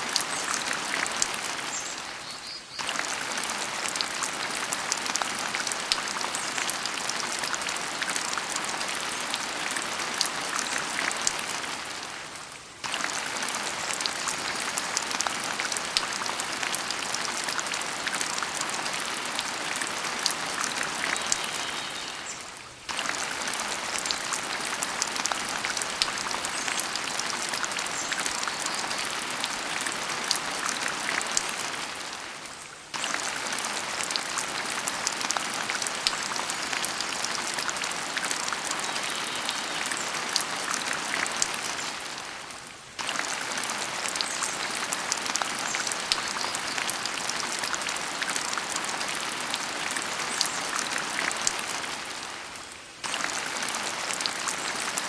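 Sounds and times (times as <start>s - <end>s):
rain-like hiss with pattering: 0.0s - 55.0s.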